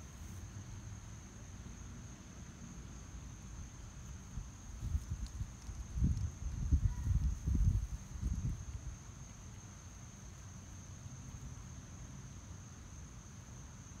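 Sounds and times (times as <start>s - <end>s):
shrill insect chorus: 0.0s - 14.0s.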